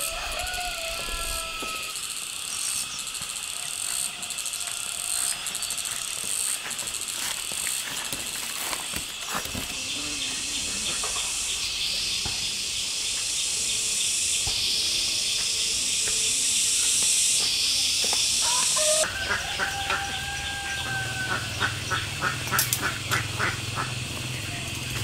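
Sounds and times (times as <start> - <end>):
long drawn-out bird call: 0.0 - 6.5, 9.2 - 25.0
insect chorus buzzing: 0.0 - 25.0.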